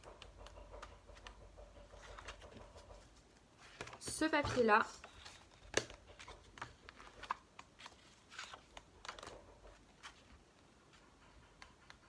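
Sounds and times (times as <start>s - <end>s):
paper rustling and tapping: 0.0s - 10.4s.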